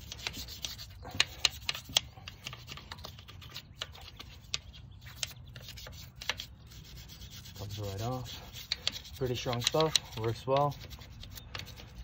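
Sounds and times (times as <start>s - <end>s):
hand brush scrubbing wheel: 0.0s - 12.0s.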